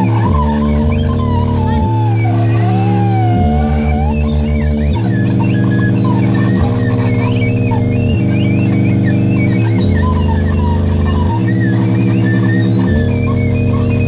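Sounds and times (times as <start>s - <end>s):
buzzing synthesizer drone: 0.0s - 14.0s
warbling electronic tones: 0.0s - 14.0s.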